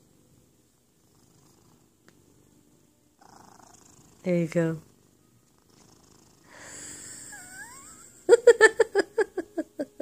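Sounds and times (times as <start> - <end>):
cat purring: 0.0 - 9.6.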